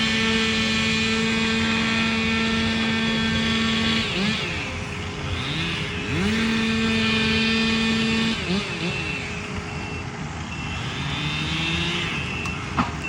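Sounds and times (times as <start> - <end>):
land-clearing machinery running: 0.0 - 13.0.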